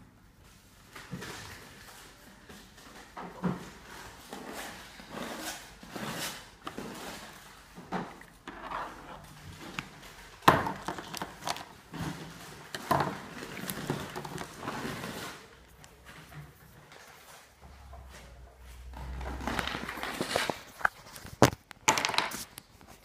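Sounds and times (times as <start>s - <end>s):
rustling and scraping: 0.4s - 23.0s.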